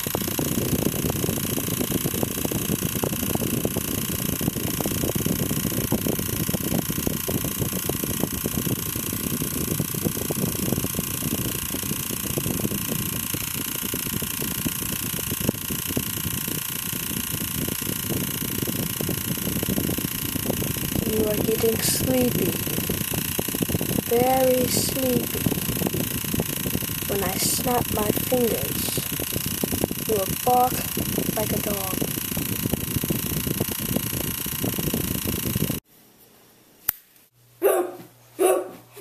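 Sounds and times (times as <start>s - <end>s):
small motor whirring: 0.0s - 35.8s.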